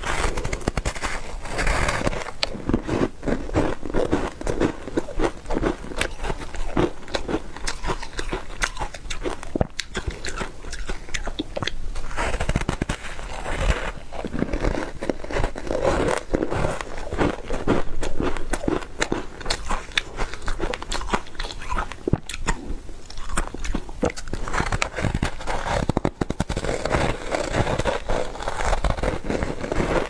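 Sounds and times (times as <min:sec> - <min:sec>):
ice being chewed crunching: 0:00.0 - 0:30.0.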